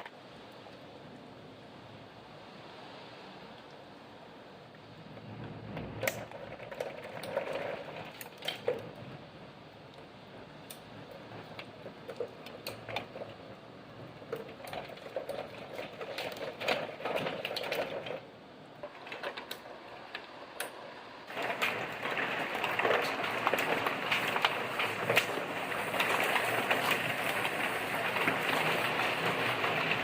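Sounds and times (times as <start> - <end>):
rain on a hard surface: 0.0 - 30.0.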